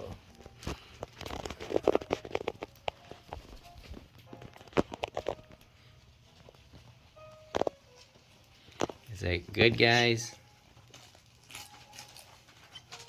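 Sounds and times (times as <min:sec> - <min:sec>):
paper and cardboard crackling: 0:00.0 - 0:13.0.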